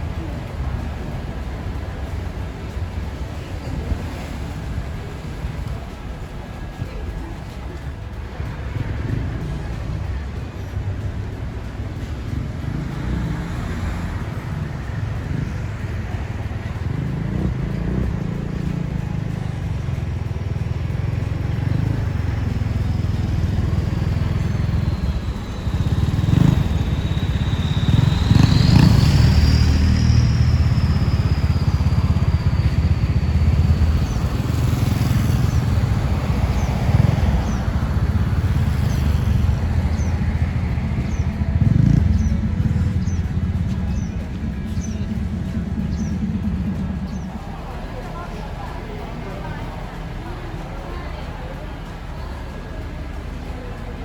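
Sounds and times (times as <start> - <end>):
diesel train rumbling: 0.0 - 54.0.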